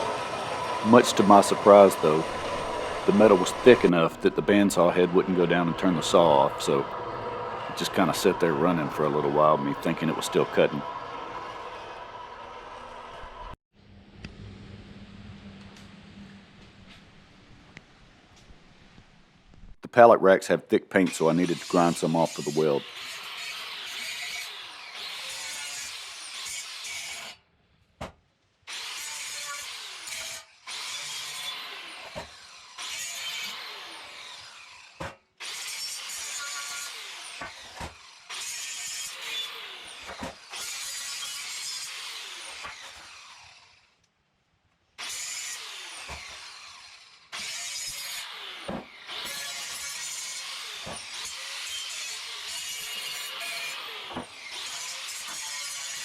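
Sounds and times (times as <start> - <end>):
grinder grinding steel: 0.0 - 13.6, 21.0 - 27.4, 28.7 - 44.0, 45.0 - 56.0.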